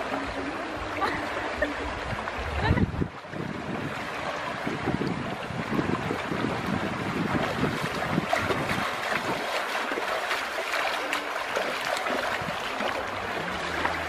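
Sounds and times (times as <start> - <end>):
feet splashing through water: 0.0 - 14.0
rushing river water: 0.0 - 14.0.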